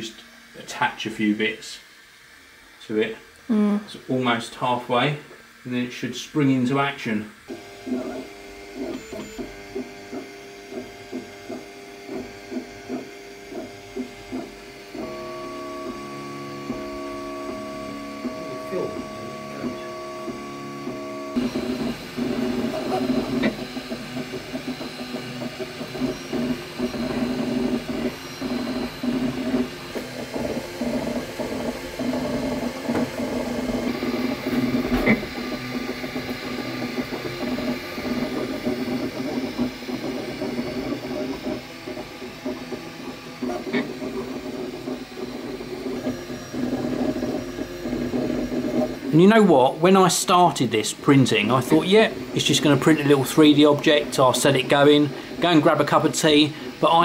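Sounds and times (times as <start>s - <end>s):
printer stepper motors whining: 0.0s - 57.0s.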